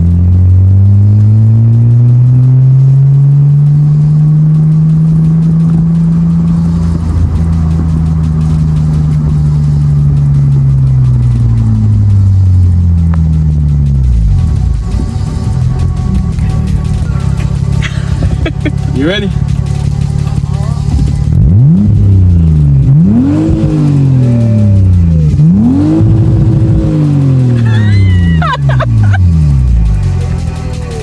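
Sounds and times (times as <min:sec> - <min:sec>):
car engine through exhaust: 0:00.0 - 0:31.0.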